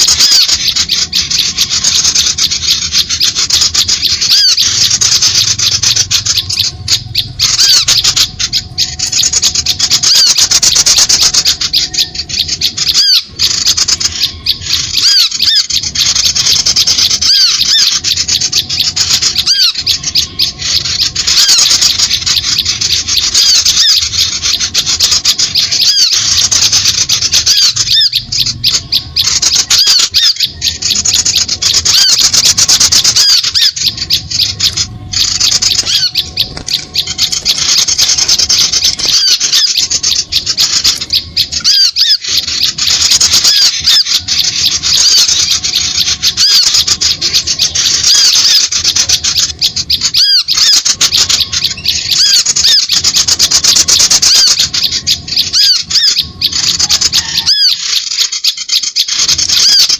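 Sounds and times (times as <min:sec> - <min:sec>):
small birds chattering: 0:00.0 - 0:59.9.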